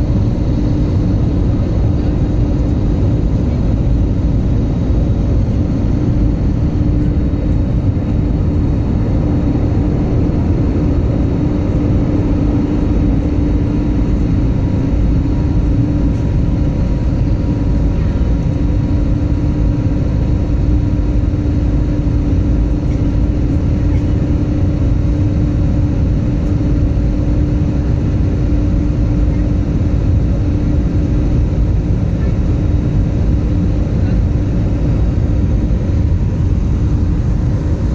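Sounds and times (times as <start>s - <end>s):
jet cabin engine rumble: 0.0s - 37.9s.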